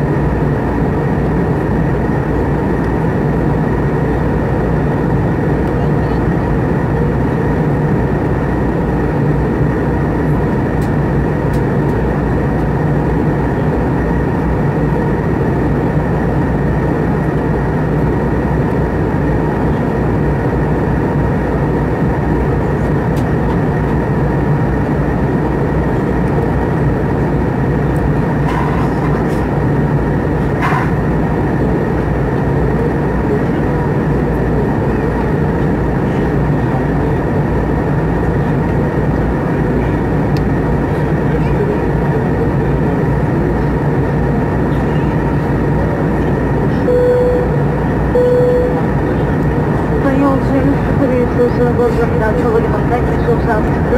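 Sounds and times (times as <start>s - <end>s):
engine whine: 0.0s - 53.9s
jet engine roar in cabin: 0.0s - 53.9s.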